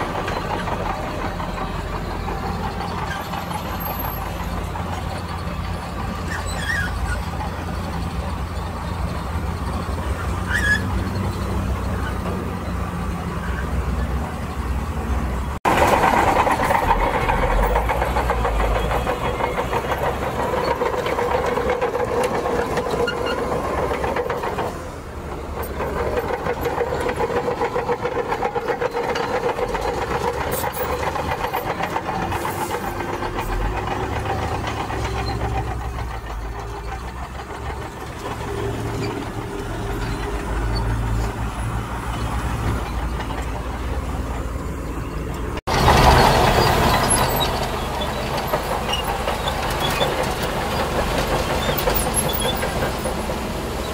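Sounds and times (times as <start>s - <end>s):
heavy machinery diesel engines: 0.0s - 53.9s.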